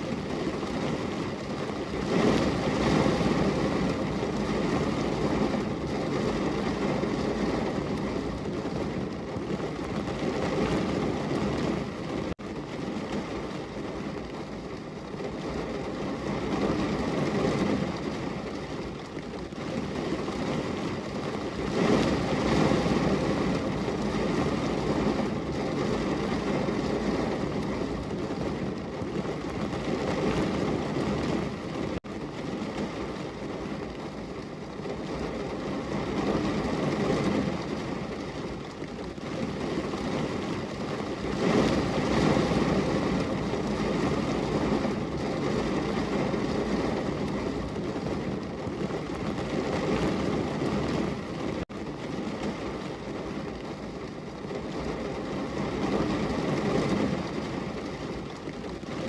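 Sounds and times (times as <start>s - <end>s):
heavy rain against a window: 0.0s - 59.0s.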